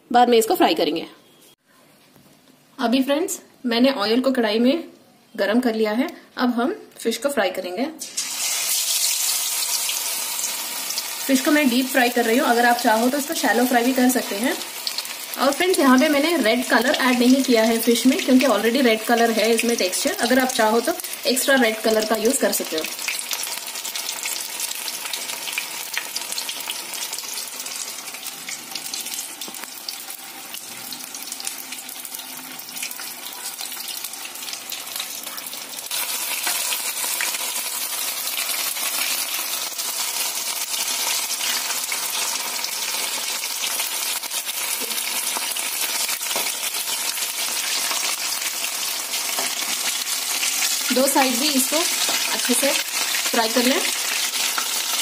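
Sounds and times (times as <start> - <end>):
fish deep-frying in oil: 8.0 - 55.0.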